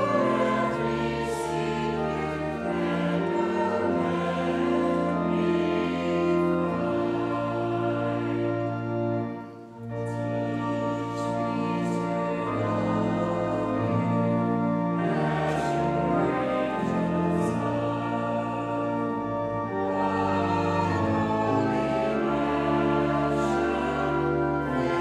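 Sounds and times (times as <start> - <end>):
congregation and choir singing a hymn: 0.0 - 25.0
organ accompaniment: 0.0 - 25.0.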